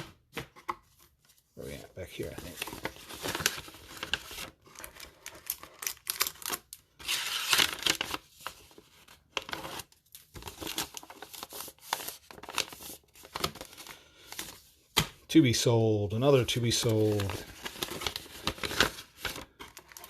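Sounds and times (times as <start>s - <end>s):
paper packs crinkling: 1.6s - 14.7s, 15.4s - 20.0s.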